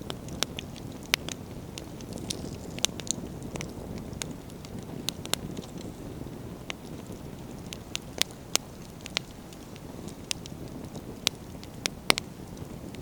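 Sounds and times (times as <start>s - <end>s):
campfire low rumble: 0.0s - 13.0s
firewood popping and crackling: 0.0s - 13.0s.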